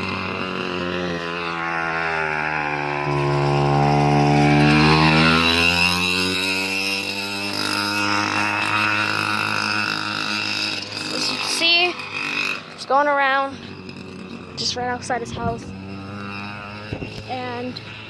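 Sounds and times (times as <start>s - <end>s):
small motorcycle engine passing: 0.0s - 18.0s.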